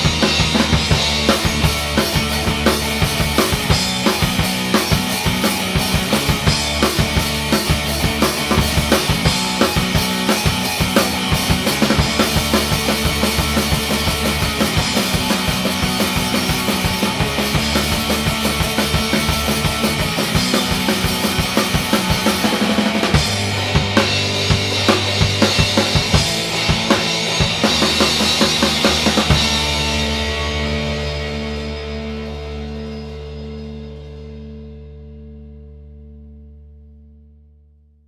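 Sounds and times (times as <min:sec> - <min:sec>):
busy drum kit playing: 0:00.0 - 0:33.5
bass and electric guitar: 0:00.0 - 0:38.0.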